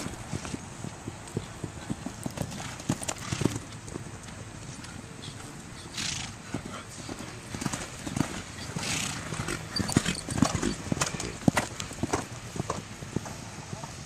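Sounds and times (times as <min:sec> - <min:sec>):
horse hooves clopping: 0:00.0 - 0:14.0.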